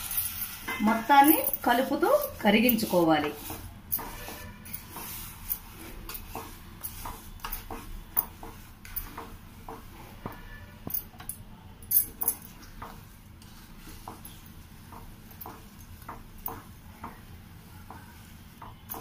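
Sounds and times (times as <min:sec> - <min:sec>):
wooden spatula scraping a pot: 0:00.0 - 0:10.8, 0:12.5 - 0:19.0.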